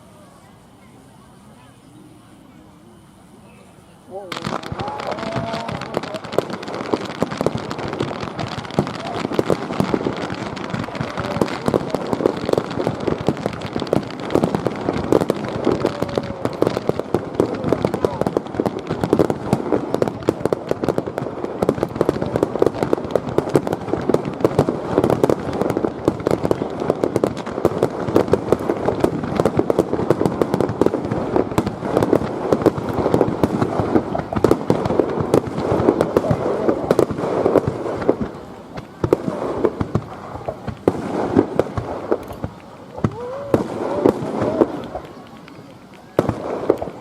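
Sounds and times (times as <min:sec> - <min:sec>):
fireworks booming and crackling: 0:00.0 - 0:47.0.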